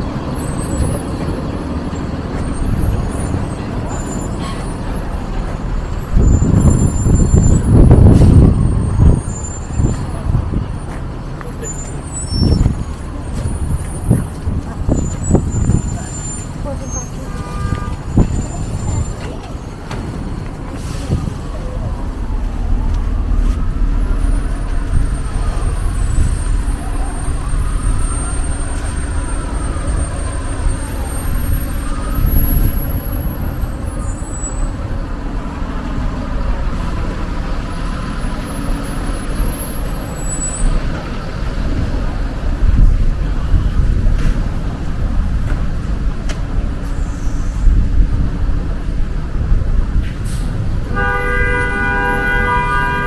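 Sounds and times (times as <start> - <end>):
heavy vehicle rumbling past: 0.0 - 53.0.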